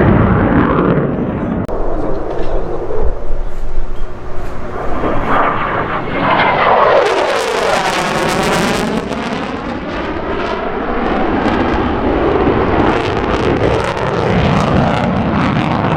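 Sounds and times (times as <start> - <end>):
jet engine passing over: 0.0 - 15.9.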